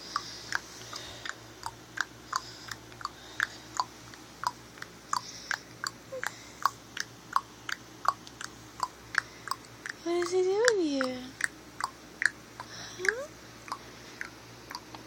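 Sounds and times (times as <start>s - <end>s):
wet mouth clicks: 0.1s - 15.0s.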